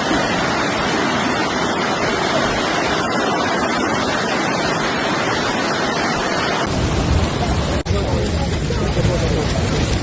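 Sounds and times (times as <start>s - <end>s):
rushing floodwater: 0.0s - 10.0s.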